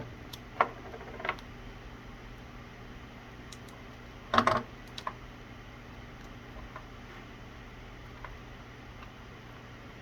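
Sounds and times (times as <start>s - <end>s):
low hiss and hum: 0.0s - 10.0s.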